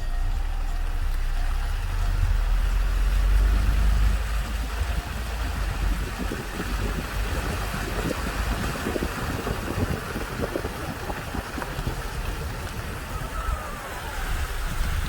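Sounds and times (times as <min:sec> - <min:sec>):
car engine rumble inside cabin: 0:00.0 - 0:15.0
tyres crackling over dirt: 0:00.0 - 0:15.0.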